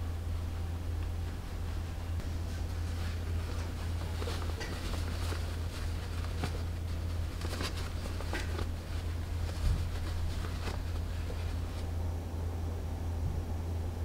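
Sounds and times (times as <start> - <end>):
steady low hum: 0.0 - 14.0
fabric rustling: 0.3 - 12.0.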